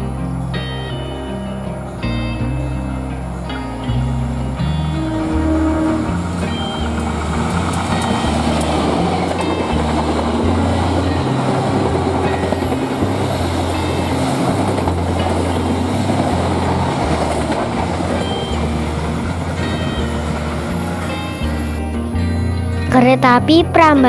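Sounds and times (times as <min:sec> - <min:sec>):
train wheels rumbling on rails: 0:00.0 - 0:21.8.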